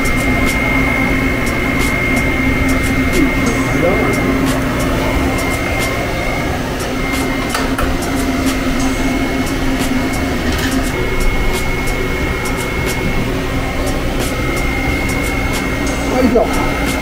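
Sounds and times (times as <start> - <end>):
machine hum: 0.0 - 17.0
thin high whine: 0.0 - 17.0.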